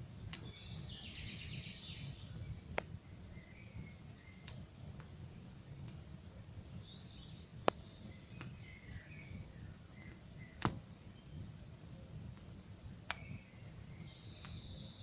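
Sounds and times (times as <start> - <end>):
low steady fire rumble: 0.0 - 15.0
small birds chirping: 0.0 - 15.0
campfire crackling pops: 0.1 - 0.9, 2.1 - 14.8.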